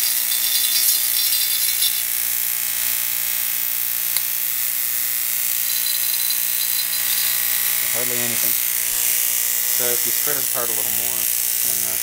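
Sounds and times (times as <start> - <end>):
electromagnet buzzing: 0.0 - 12.0.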